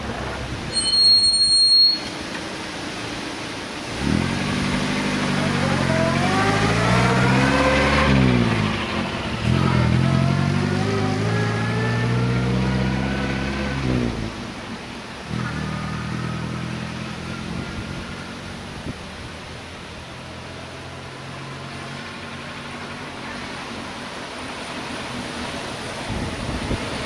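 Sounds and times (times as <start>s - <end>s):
vintage car accelerating: 2.2s - 27.0s.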